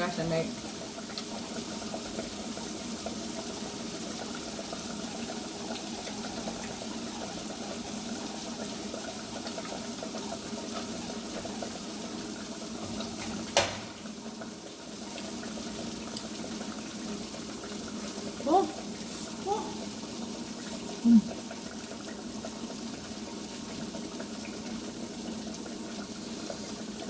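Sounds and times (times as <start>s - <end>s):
hot oil sizzling in a frying pan: 0.0s - 27.0s.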